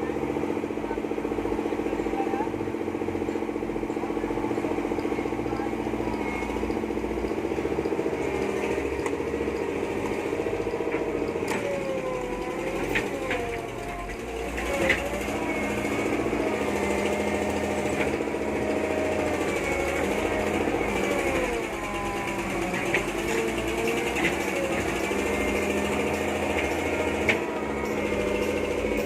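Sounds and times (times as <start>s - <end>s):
diesel engine clattering: 0.0s - 29.0s.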